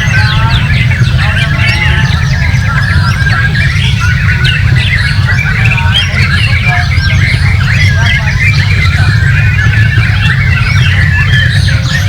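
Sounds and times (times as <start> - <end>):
songbirds singing and chirping: 0.0 - 12.0
steady low rumble: 0.0 - 12.0.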